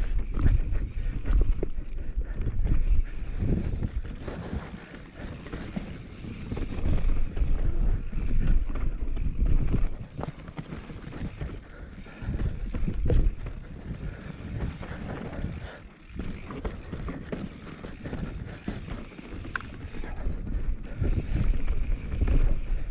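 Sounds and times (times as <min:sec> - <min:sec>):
bike rattling clicks and knocks: 0:00.0 - 0:22.9
bike tyres rumbling on dirt trail: 0:00.0 - 0:22.9
wind buffeting microphone: 0:00.0 - 0:22.9.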